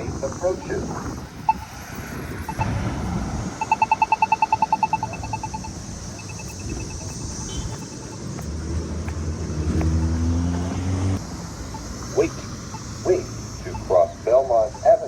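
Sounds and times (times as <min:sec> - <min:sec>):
pedestrian signal rapid beeping: 0:00.0 - 0:09.5, 0:11.5 - 0:15.0
traffic rumble: 0:00.0 - 0:15.0.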